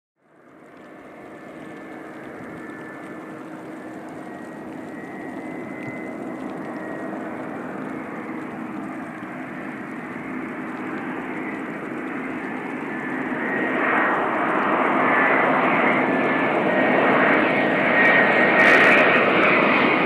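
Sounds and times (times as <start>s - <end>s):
jet airliner engines rushing: 0.3s - 20.0s.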